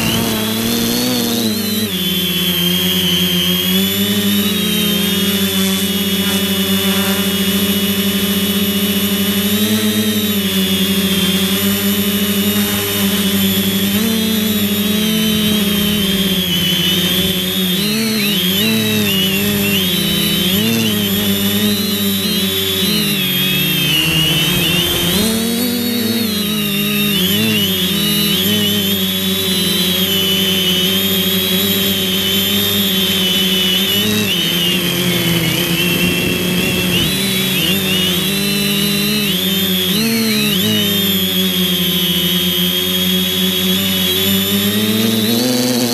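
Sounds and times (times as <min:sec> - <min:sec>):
drone motors and propellers whining: 0:00.0 - 0:45.9.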